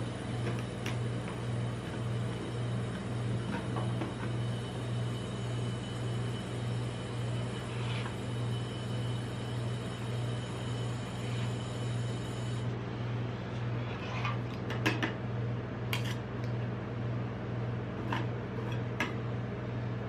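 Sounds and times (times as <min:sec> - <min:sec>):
refrigeration unit humming: 0:00.0 - 0:20.0.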